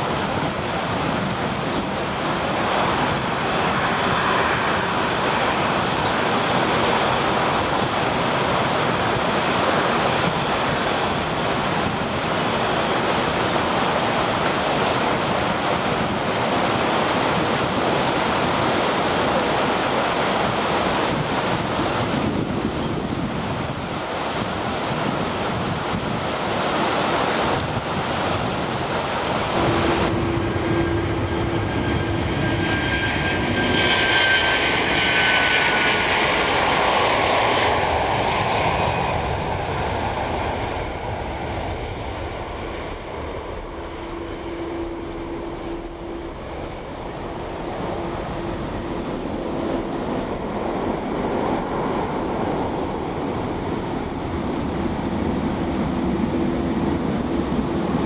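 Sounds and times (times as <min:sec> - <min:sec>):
jet engine rushing: 0:00.0 - 0:58.0
whining jet engine: 0:00.0 - 0:58.0.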